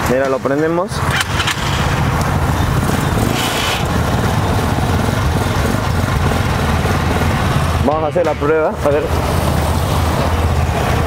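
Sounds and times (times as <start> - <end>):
engine idling: 1.0 - 11.0.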